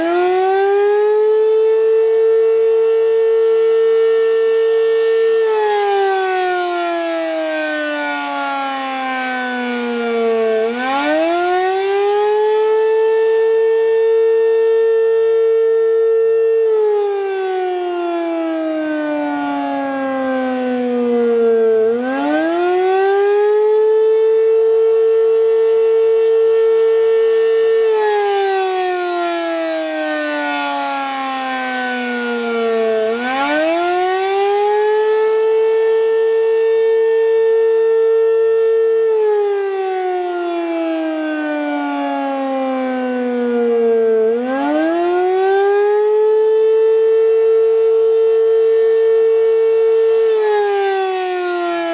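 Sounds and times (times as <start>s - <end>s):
rotating warning siren wailing: 0.0s - 51.9s.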